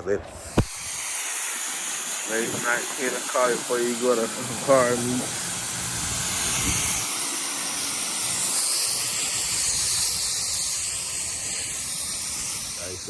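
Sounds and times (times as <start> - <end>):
water spraying on a car: 0.4 - 13.0.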